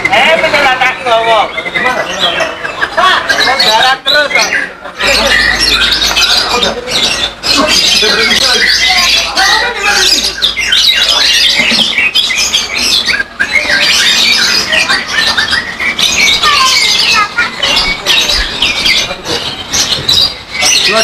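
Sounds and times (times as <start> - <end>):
songbirds singing and chirping: 0.0 - 21.0.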